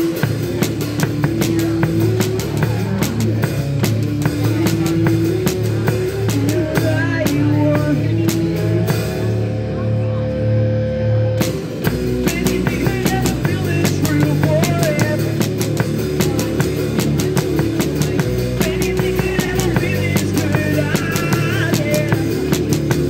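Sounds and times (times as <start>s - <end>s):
drum kit beat: 0.0s - 9.6s, 11.4s - 23.0s
live rock band playing: 0.0s - 23.0s.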